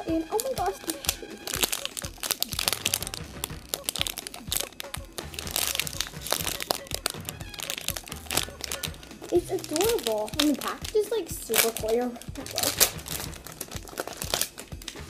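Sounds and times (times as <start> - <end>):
background music: 0.0 - 15.0
plastic packaging crinkling: 0.2 - 15.0.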